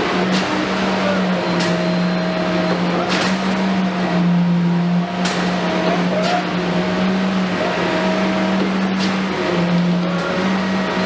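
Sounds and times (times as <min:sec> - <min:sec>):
excavator engine and hydraulics humming: 0:00.0 - 0:11.0.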